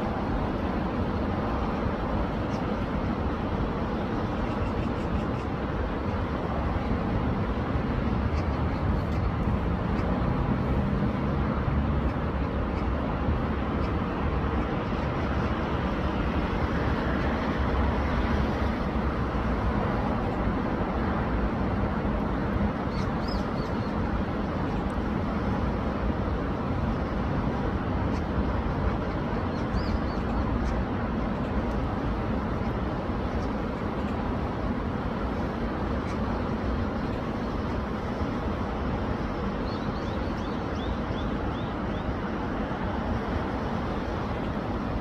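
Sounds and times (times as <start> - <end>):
stream rushing: 0.0 - 45.0.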